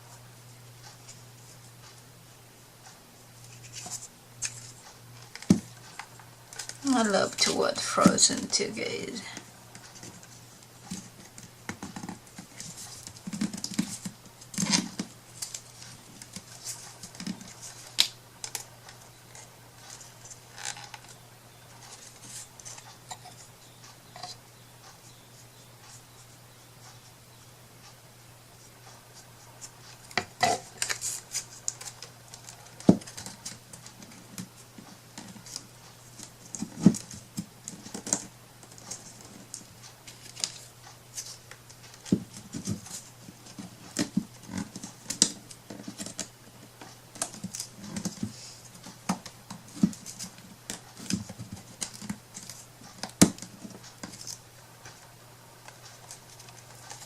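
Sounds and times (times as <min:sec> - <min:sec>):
faint steady low hum: 0:00.0 - 0:57.0.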